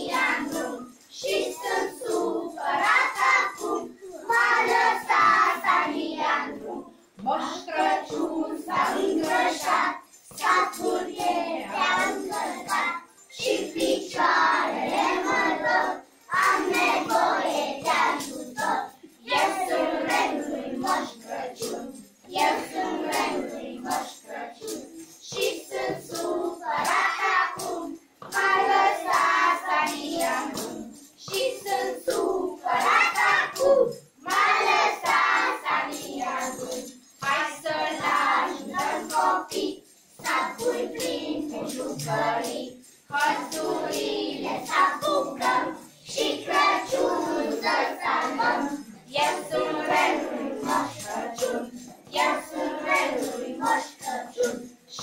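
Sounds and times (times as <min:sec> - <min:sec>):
children singing together: 0:00.0 - 0:55.0.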